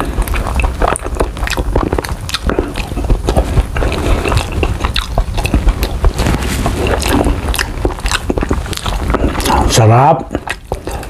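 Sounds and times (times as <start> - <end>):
chewing and mouth smacks: 0.0 - 11.0.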